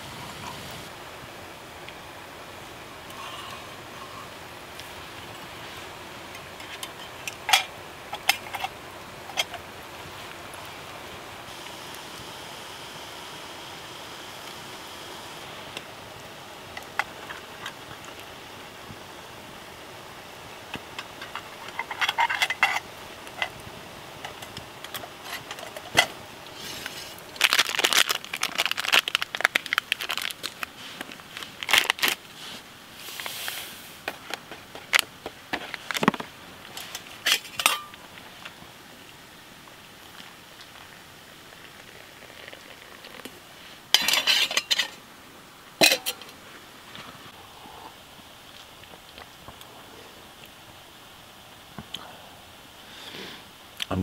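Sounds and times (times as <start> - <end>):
campfire hissing and crackling: 0.0 - 54.0.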